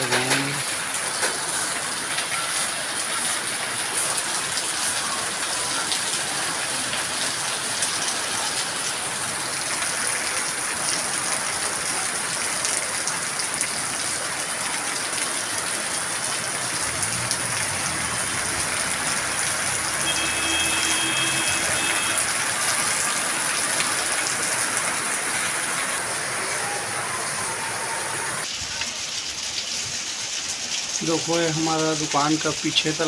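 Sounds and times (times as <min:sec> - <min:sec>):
heavy rain hissing: 0:00.0 - 0:33.0.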